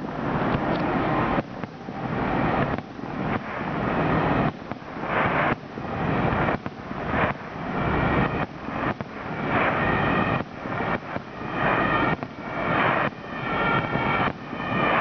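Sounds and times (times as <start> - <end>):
fireworks bursting: 0.0 - 15.0
fireworks crackling and hissing: 0.0 - 15.0.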